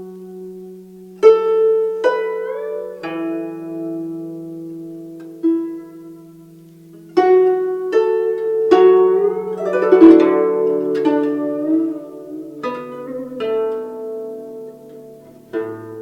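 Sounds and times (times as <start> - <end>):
plucked zither melody: 0.0 - 16.0.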